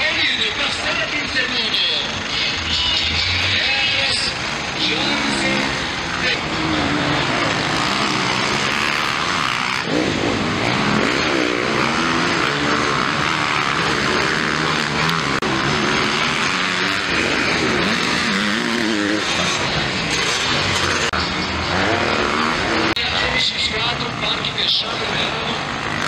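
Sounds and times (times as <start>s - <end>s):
motocross bike engines revving: 0.0s - 26.0s.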